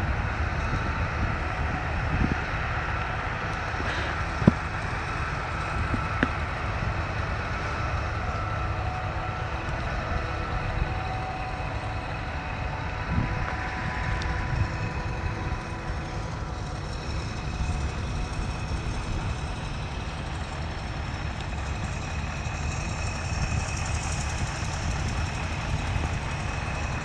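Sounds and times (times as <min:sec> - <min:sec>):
distant farm machinery rumble: 0:00.0 - 0:27.0
wind buffeting microphone: 0:00.0 - 0:27.0.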